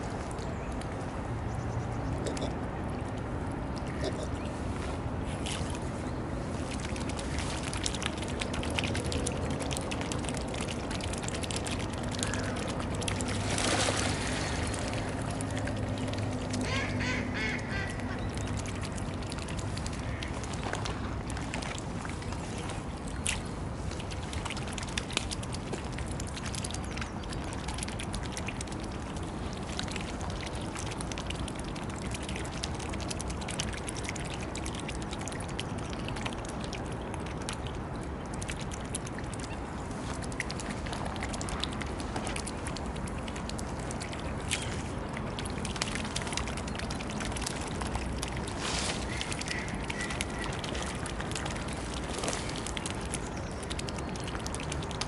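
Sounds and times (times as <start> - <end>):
swans dabbling and splashing: 0.0 - 55.0.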